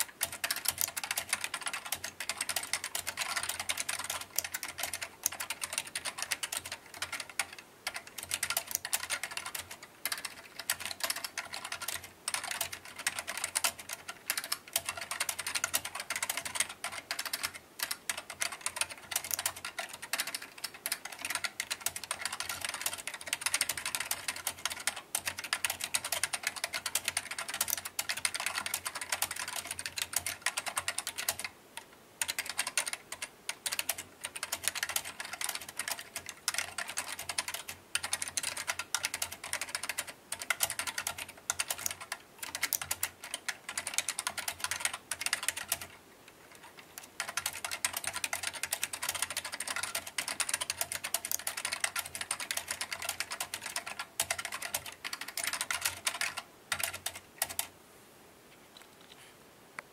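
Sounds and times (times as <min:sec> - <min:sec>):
mechanical keyboard typing: 0:00.0 - 0:57.7.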